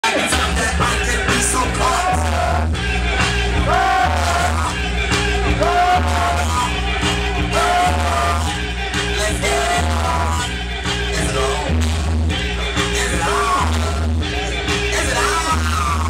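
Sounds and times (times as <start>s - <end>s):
dance music with bass beat: 0.0s - 16.0s.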